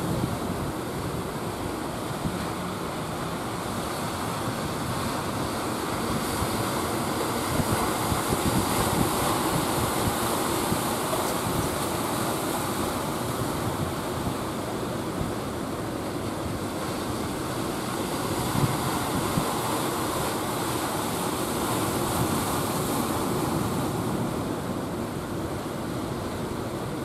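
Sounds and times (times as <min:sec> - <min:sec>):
surf and churning waves: 0:00.0 - 0:27.0
wind buffeting microphone: 0:00.0 - 0:27.0.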